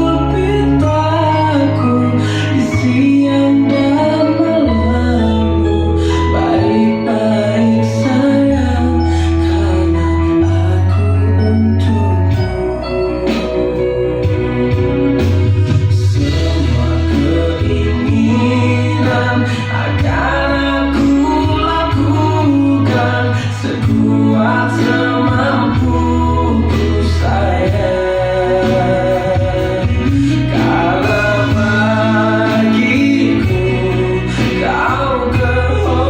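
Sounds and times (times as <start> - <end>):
pop song through loudspeakers: 0.0 - 36.0.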